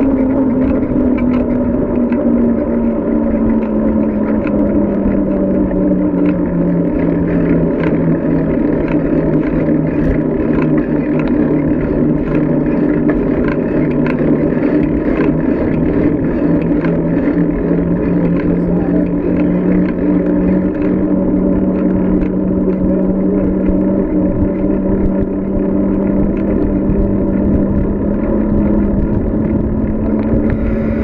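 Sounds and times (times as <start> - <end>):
low hum: 0.0 - 31.0
rushing road and wind noise: 0.0 - 31.0.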